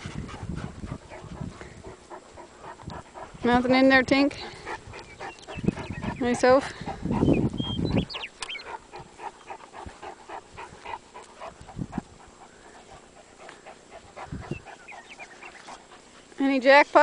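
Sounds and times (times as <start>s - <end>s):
wind rumble on microphone: 0.0s - 13.0s, 13.9s - 15.4s
dogs panting: 0.0s - 17.0s.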